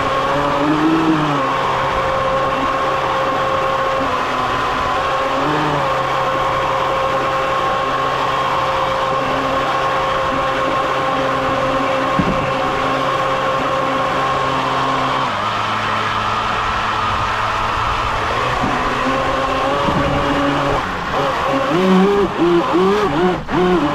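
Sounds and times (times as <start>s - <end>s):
motor whining and humming: 0.0s - 23.9s.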